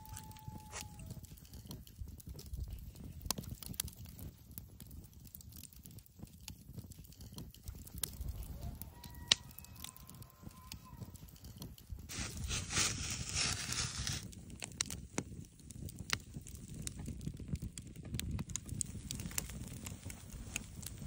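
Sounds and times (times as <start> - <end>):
campfire crackling: 0.0 - 21.0
wooden skewers clicking and snapping: 0.0 - 21.0.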